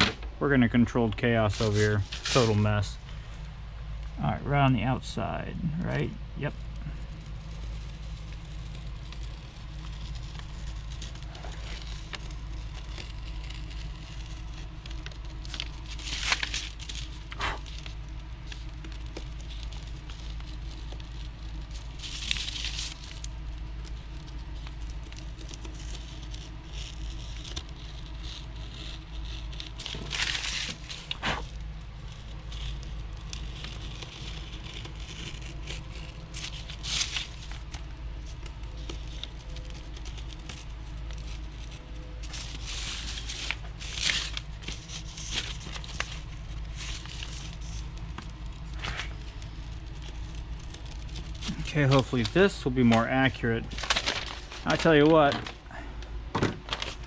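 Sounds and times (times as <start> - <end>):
plastic parts scraping and rustling: 0.0 - 3.5, 5.9 - 57.0
steady low hum: 0.0 - 57.0.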